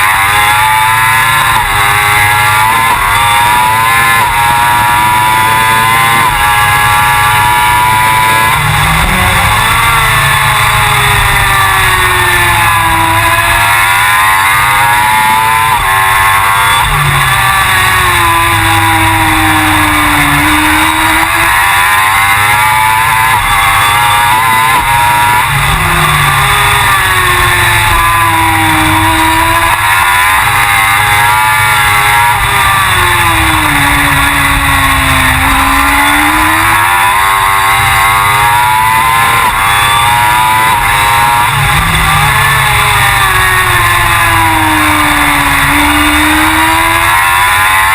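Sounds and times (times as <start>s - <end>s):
motorcycle engine at racing speed: 0.0s - 47.9s.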